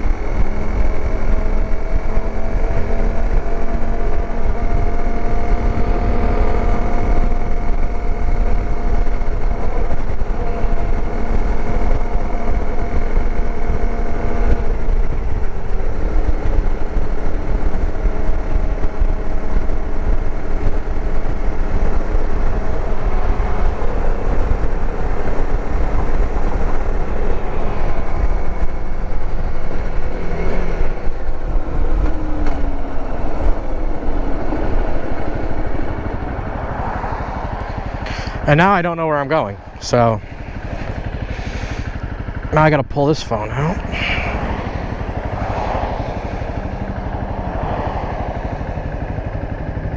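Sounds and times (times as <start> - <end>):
dirt bike engine running: 0.0 - 49.9
low rumble: 0.0 - 49.9.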